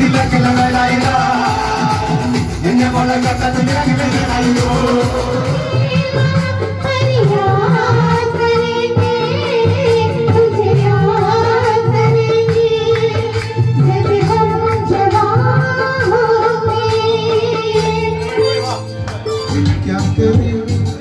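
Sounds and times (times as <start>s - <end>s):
women singing into microphones: 0.0s - 18.4s
backing track with beat and bass: 0.0s - 21.0s.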